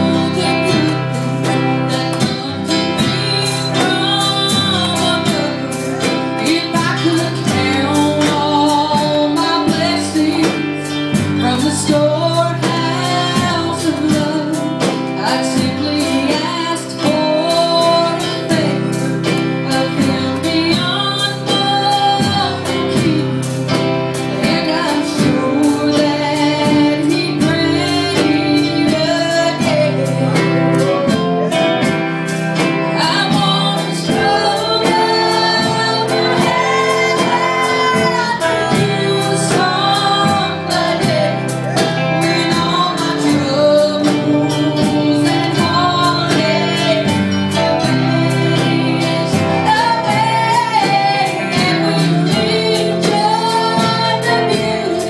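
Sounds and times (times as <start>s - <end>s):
woman singing gospel song: 0.0s - 31.9s, 32.6s - 55.0s
guitar accompaniment: 0.0s - 55.0s.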